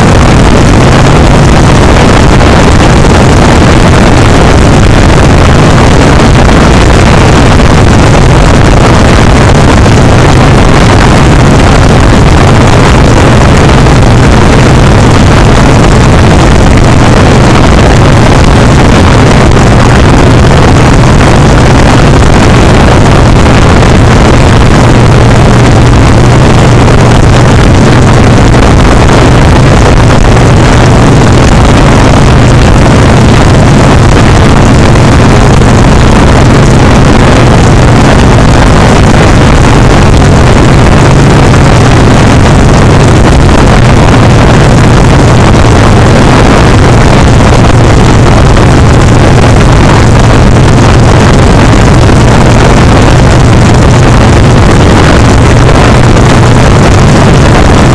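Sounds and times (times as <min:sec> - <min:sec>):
motorcycle engine running: 0:00.0 - 0:57.9
wind noise on microphone: 0:00.0 - 0:57.9.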